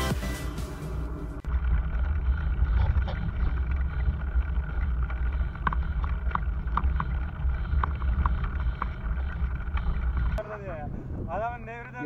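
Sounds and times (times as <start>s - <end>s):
wind buffeting microphone: 1.4s - 12.0s.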